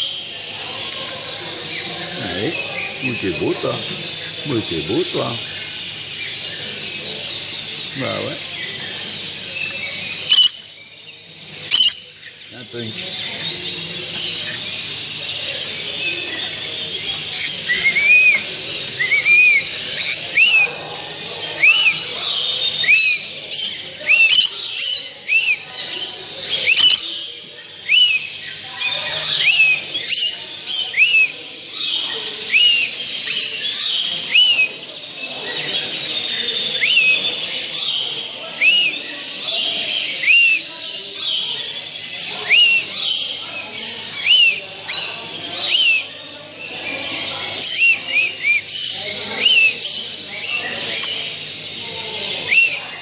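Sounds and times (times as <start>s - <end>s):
cage birds chirping chorus: 0.0s - 53.0s.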